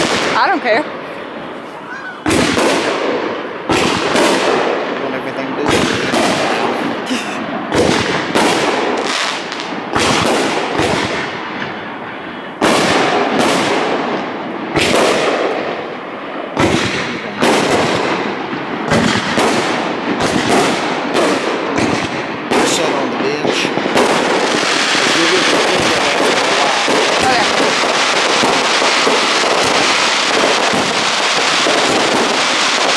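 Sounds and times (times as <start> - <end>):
fireworks bursting with booms: 0.0 - 32.9.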